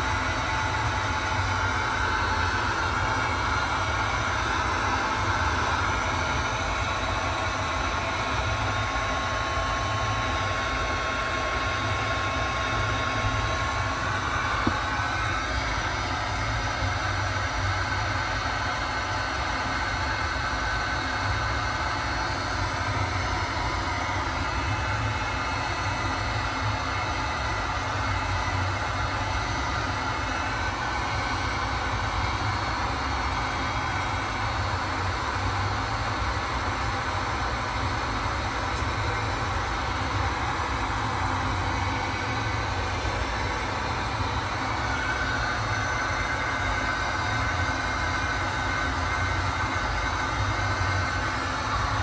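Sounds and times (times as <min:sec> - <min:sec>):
faint machine whine: 0:00.0 - 0:52.0
machine rumble with hiss: 0:00.0 - 0:52.0.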